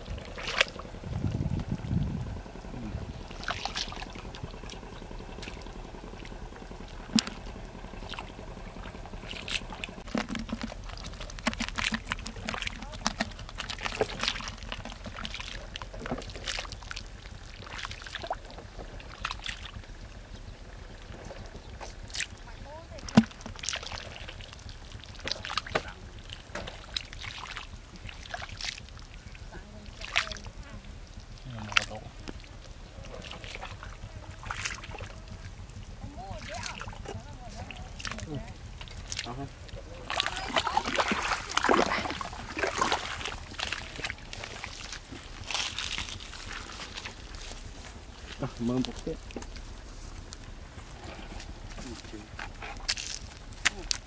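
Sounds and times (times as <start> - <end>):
mud squelching and splashing: 0.0 - 54.0.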